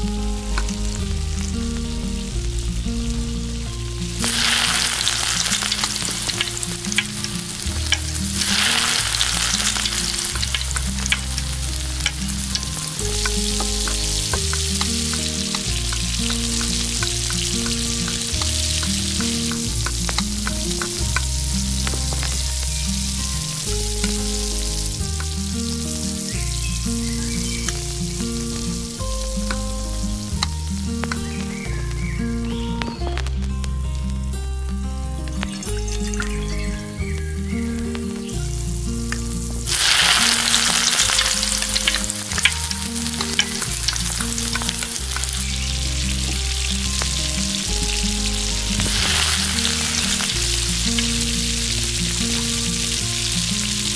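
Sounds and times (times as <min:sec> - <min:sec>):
chicken sizzling in hot oil: 0:00.0 - 0:32.5, 0:35.4 - 0:53.9.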